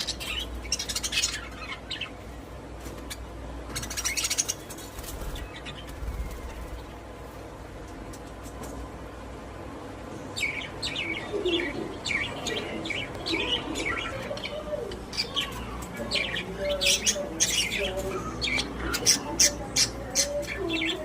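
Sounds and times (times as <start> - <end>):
budgies chirping: 0.0 - 7.0, 10.3 - 21.0.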